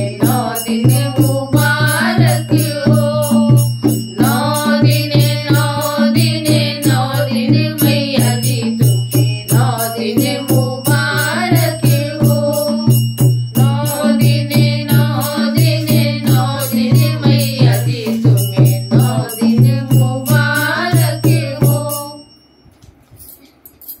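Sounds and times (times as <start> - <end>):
hand drum beat: 0.0 - 22.1
woman singing devotional song: 0.0 - 22.4.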